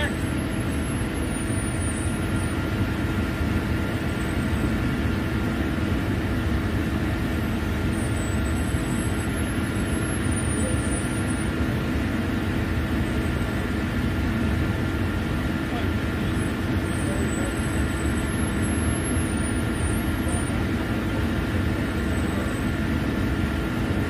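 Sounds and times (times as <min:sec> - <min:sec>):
drilling machinery low hum: 0:00.0 - 0:24.0
faint steady machine whines: 0:00.0 - 0:24.0.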